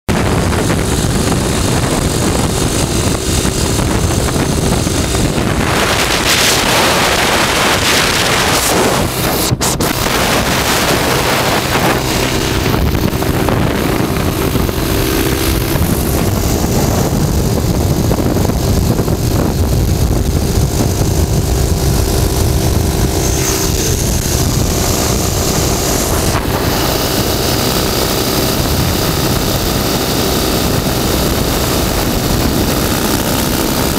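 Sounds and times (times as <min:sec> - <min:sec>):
motorcycle engine running: 0:00.1 - 0:33.9
wind noise on microphone: 0:00.1 - 0:33.9.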